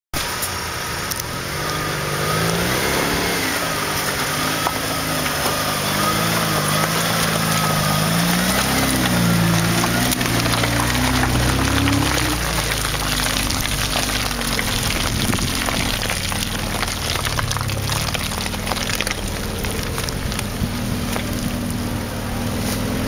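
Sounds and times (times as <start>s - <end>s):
engine revving in mud: 0.2s - 23.0s.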